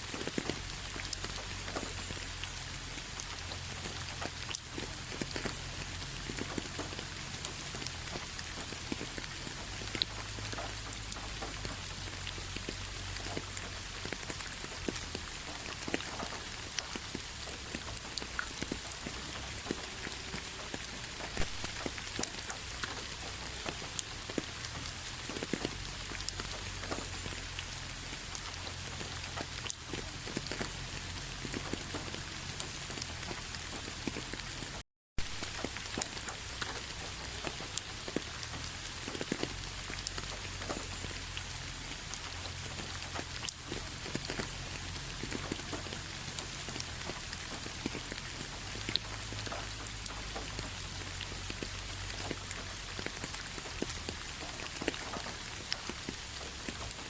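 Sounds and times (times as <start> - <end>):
raindrops clicking: 0.0 - 57.0
steady rain hiss: 0.0 - 57.0.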